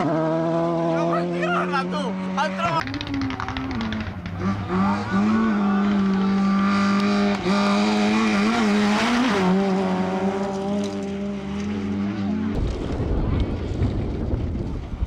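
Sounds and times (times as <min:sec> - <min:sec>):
rally car engine at high revs: 0:00.0 - 0:12.6.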